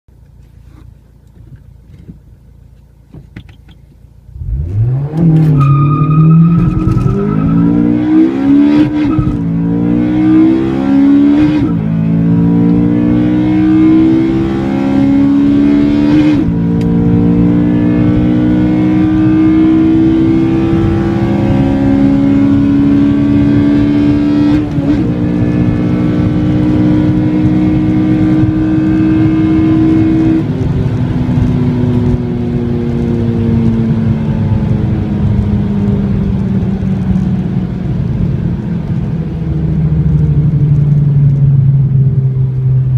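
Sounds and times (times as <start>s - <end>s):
car engine accelerating through gears: 4.3s - 42.9s.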